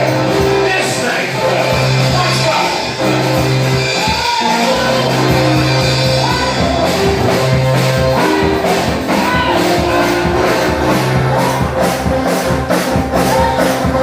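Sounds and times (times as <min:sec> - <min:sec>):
bass: 0:00.0 - 0:14.0
drums keeping a steady beat: 0:00.0 - 0:14.0
electric guitar: 0:00.0 - 0:14.0.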